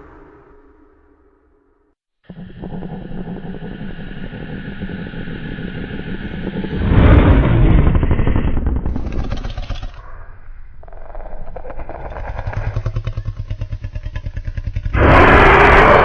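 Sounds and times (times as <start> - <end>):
creature low rattling growl: 2.3 - 16.0.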